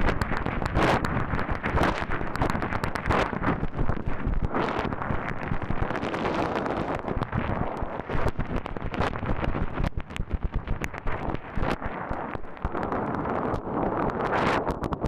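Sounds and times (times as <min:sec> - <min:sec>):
water boiling and bubbling: 0:00.0 - 0:15.0.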